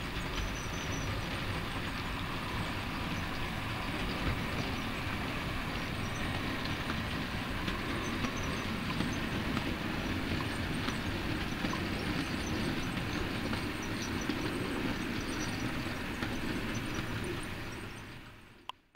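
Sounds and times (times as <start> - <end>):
model train wheels on rail: 0.0 - 18.9.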